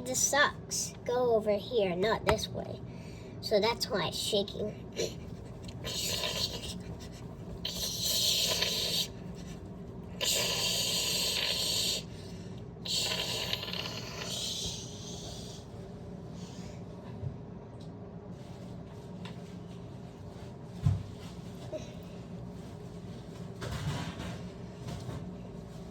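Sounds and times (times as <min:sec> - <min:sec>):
washing machine humming: 0:00.0 - 0:25.9.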